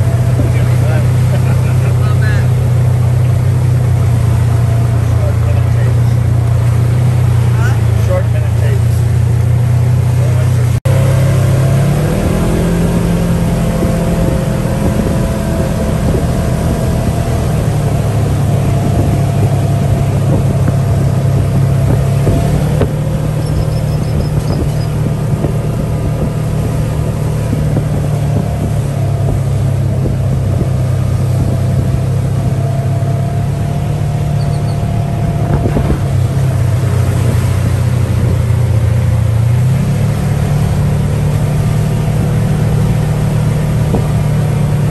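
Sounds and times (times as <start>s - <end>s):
buggy engine droning: 0.0s - 44.9s
road and wind noise: 0.0s - 44.9s.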